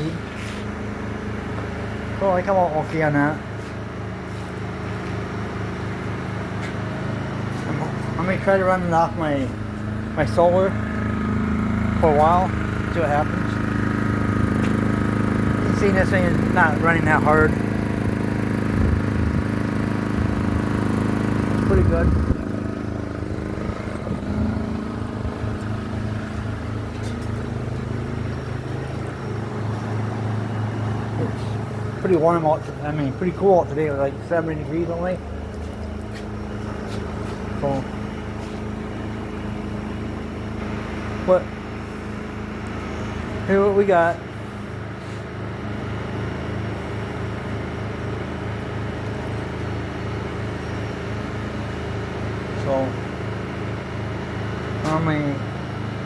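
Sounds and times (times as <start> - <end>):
air conditioner running: 0.0 - 56.0
portable generator engine humming: 0.0 - 56.0.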